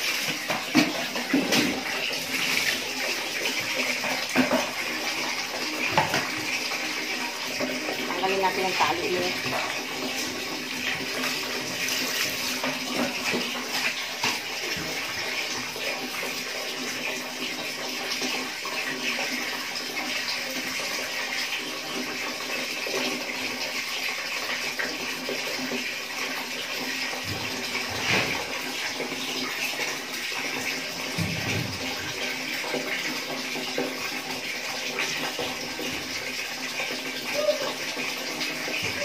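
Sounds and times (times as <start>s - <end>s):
water running and splashing: 0.0s - 39.0s.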